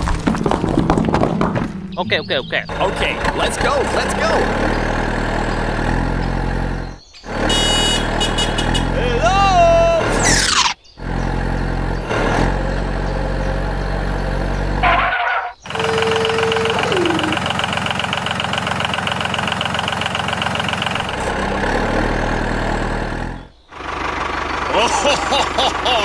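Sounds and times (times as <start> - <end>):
truck engine running: 0.0 - 26.0
engine starting whine: 2.7 - 8.2, 10.0 - 26.0.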